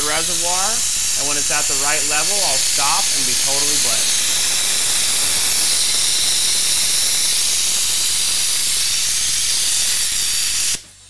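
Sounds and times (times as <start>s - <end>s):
pneumatic brake bleeder hissing: 0.0s - 11.0s.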